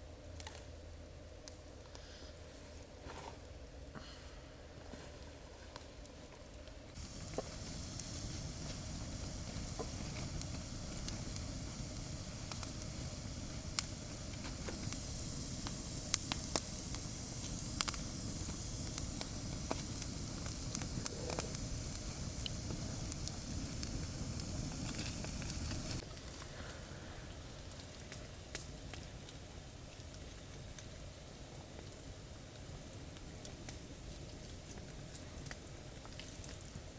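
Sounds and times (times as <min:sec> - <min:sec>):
steady low fire noise: 0:00.0 - 0:36.9
campfire crackling and popping: 0:00.1 - 0:36.9.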